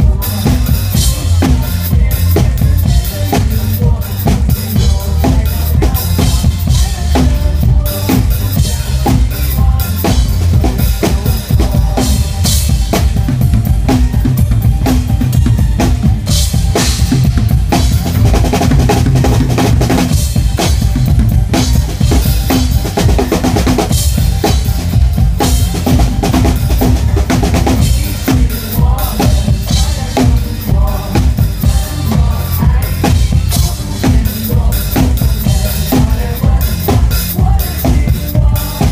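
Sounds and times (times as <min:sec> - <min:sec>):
drum kit playing pop beat: 0:00.0 - 0:38.9
pop music backing track: 0:00.0 - 0:38.9.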